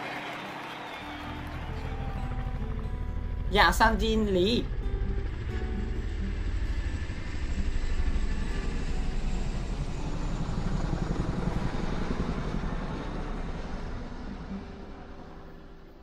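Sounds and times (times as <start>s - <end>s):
vehicle engine pulsing rumble: 1.6s - 15.4s.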